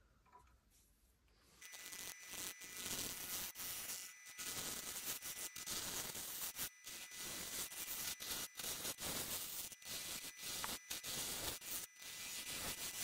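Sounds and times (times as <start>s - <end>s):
lathe tool cutting wood: 1.6s - 13.0s.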